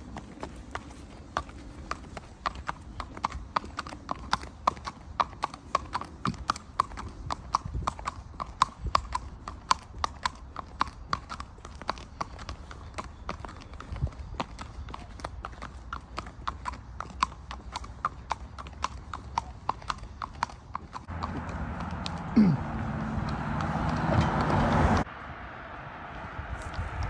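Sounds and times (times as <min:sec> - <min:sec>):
hooves clip-clopping on tarmac: 0:00.0 - 0:27.0.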